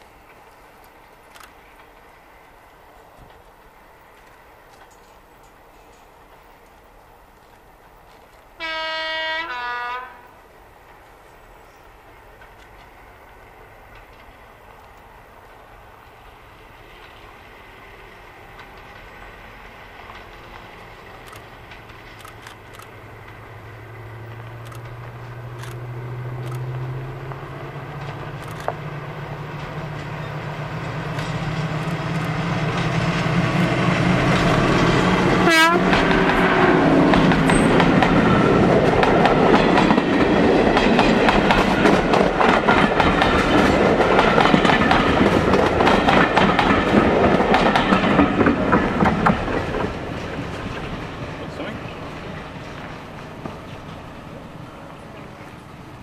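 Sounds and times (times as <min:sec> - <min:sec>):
diesel locomotive engine drone: 0:00.0 - 0:56.0
coaches rattling over rail joints: 0:10.7 - 0:56.0.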